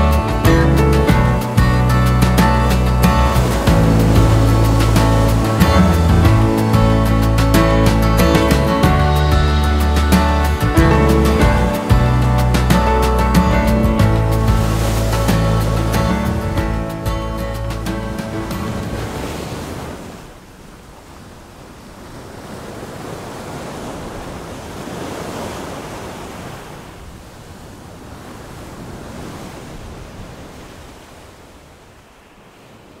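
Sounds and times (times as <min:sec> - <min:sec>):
waves washing on shore: 0:00.0 - 0:33.0.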